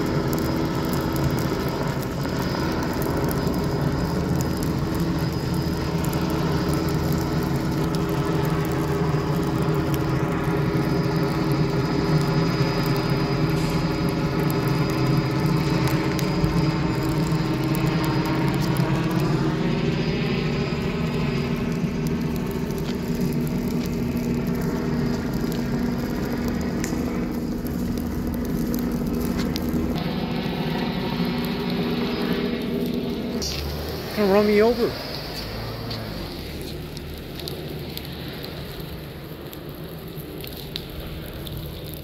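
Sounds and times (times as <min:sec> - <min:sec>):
helicopter flying overhead: 0:00.0 - 0:42.0.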